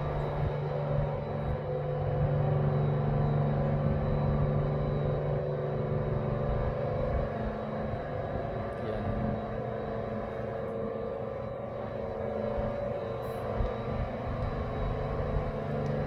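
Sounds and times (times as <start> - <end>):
bridge machinery humming: 0.0 - 16.0
high machinery whine: 0.0 - 16.0.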